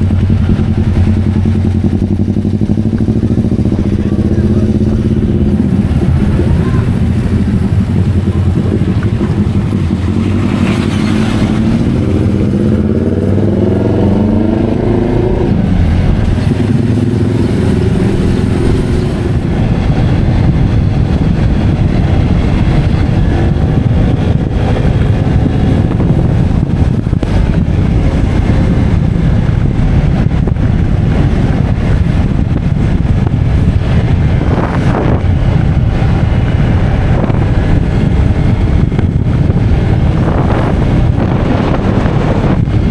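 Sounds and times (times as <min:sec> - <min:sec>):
motorcycle engine accelerating: 0:00.0 - 0:42.9
wind noise on microphone: 0:00.0 - 0:42.9.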